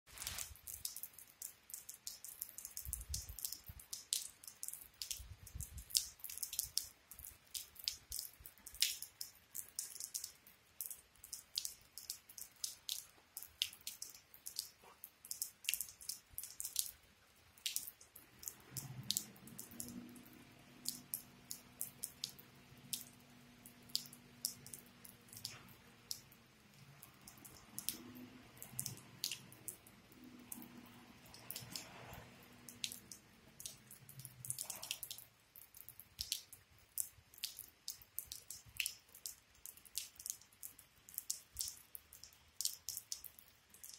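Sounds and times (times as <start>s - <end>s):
rainwater dripping: 0.1s - 43.9s.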